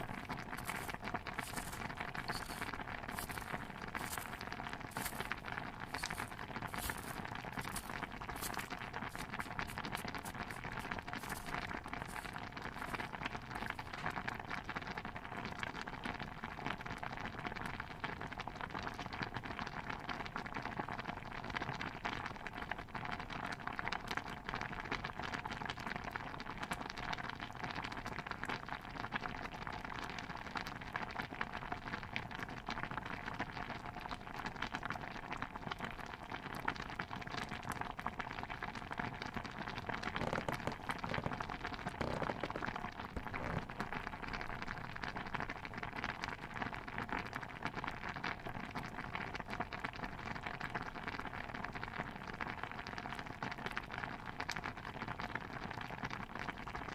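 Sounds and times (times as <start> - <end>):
watery patter of pops and crackles: 0.0 - 56.9.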